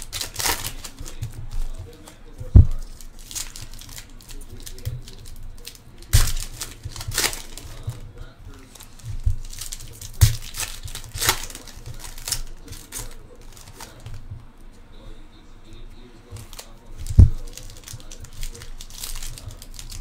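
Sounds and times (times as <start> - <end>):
plastic wrappers tearing and crinkling: 0.0 - 14.3, 16.2 - 20.0.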